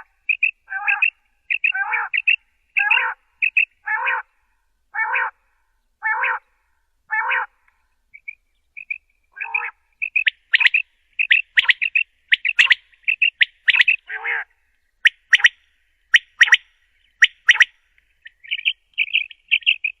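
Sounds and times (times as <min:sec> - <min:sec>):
quail high chirps: 0:00.0 - 0:04.3, 0:05.0 - 0:05.3, 0:06.0 - 0:06.4, 0:07.1 - 0:07.5, 0:08.2 - 0:20.0.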